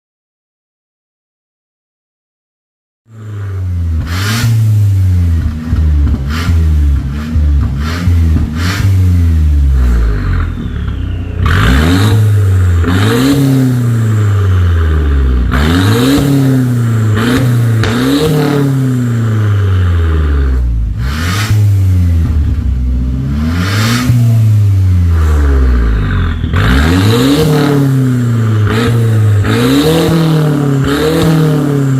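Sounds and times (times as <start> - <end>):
car engine revving: 3.1 - 31.9.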